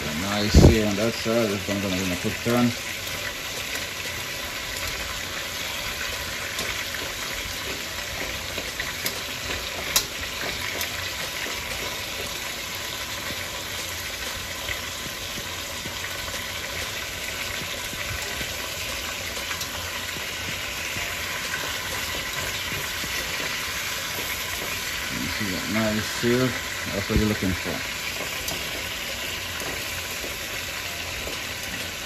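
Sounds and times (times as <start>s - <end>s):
meat sizzling in oil: 0.0s - 32.0s.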